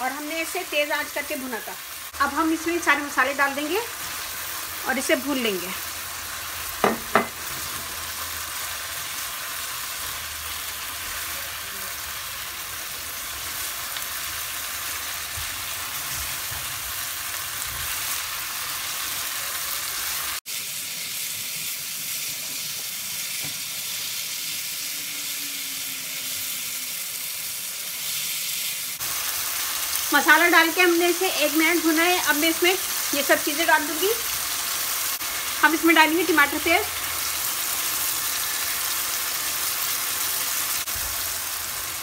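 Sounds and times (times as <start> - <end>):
chicken frying in hot oil: 0.0 - 42.0.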